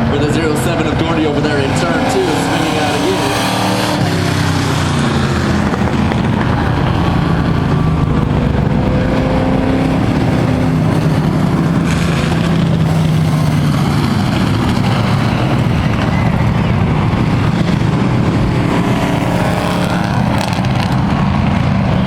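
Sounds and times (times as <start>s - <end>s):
racing truck engines: 0.0s - 22.0s.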